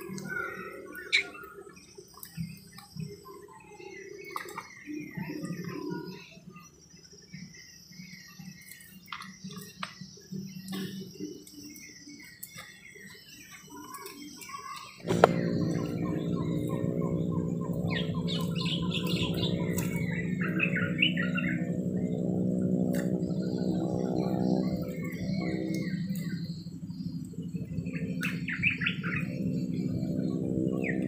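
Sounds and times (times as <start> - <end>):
birds chirping: 0.0 - 31.0
steady low hum: 0.0 - 31.0.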